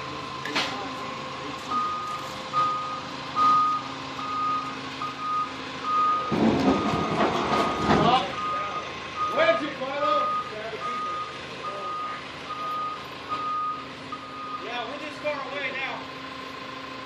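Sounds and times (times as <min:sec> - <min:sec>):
forklift reversing alarm beeping: 0:00.0 - 0:14.9.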